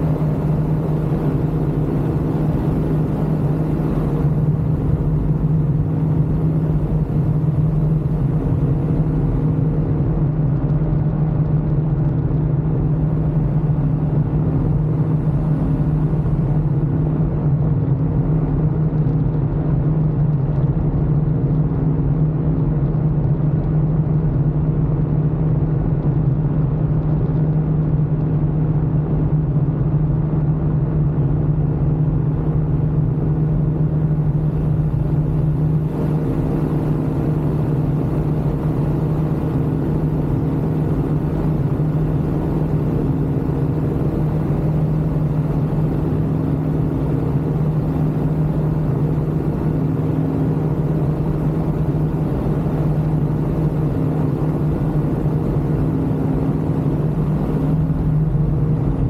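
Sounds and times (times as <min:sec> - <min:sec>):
ultralight aircraft engine drone: 0:00.0 - 0:59.0.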